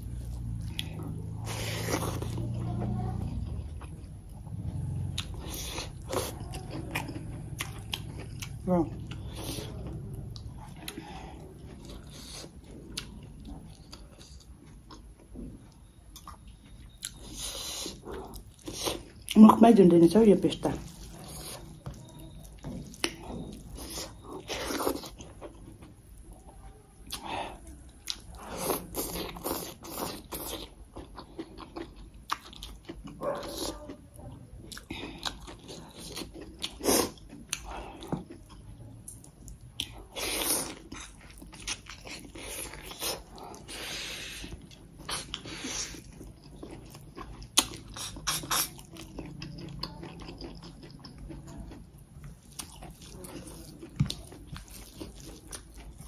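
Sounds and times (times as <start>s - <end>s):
person chewing food: 0.0s - 19.8s, 20.5s - 56.0s.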